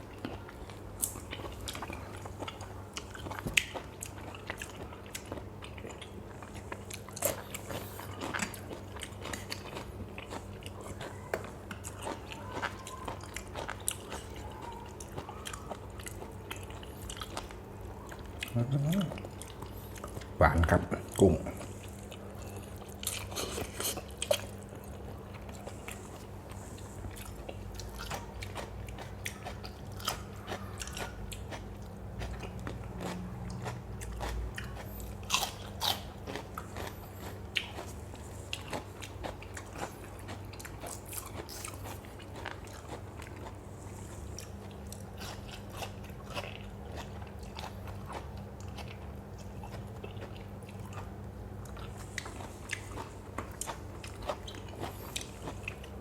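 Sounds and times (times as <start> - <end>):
low steady hum: 0.0 - 56.0
person chewing crunchy food: 0.0 - 56.0.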